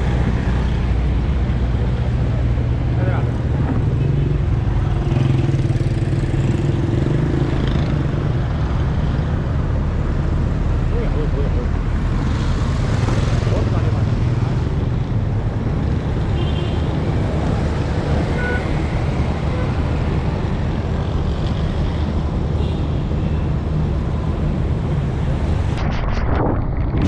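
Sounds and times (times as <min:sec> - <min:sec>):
tyres on wet road: 0:00.0 - 0:22.7
vehicles passing close by: 0:00.0 - 0:25.8.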